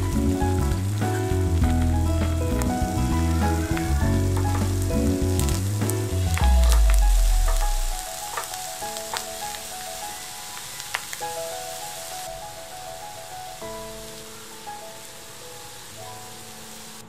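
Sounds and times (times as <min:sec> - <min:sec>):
background music: 0:00.0 - 0:17.0
rice crackling and sizzling in a pot: 0:00.0 - 0:17.0.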